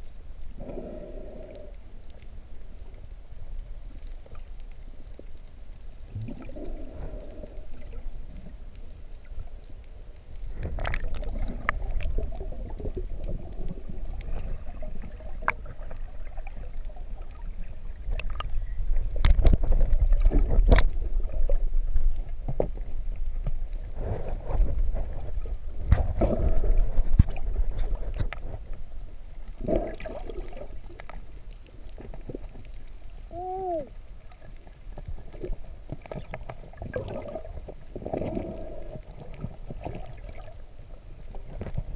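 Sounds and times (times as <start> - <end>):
water sloshing and bubbling: 0.0 - 41.9.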